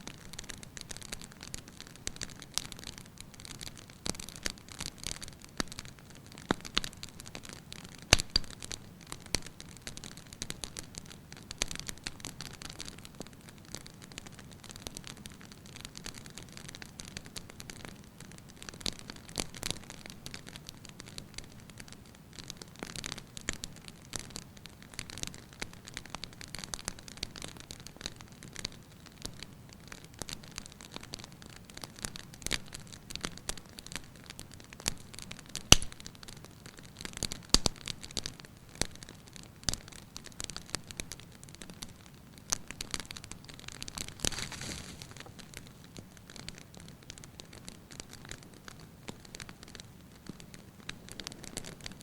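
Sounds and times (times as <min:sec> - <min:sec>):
firewood crackling and popping: 0:00.0 - 0:52.0
soft fire hiss: 0:00.0 - 0:52.0.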